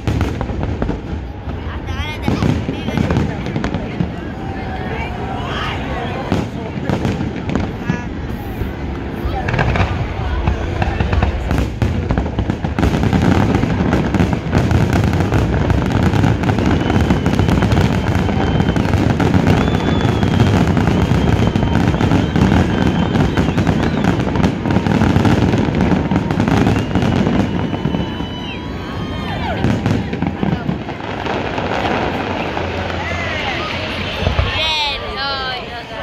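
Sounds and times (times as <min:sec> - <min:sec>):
high firework whistles: 0:00.0 - 0:35.6
fireworks bursting and crackling: 0:00.0 - 0:36.0.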